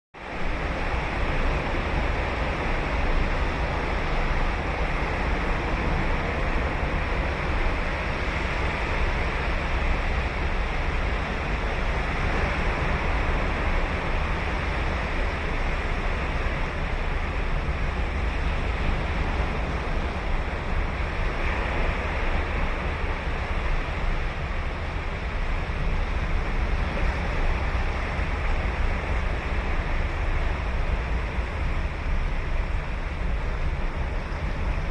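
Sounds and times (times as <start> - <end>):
ocean waves breaking on beach: 0.2 - 34.9
wind on microphone: 0.2 - 34.9.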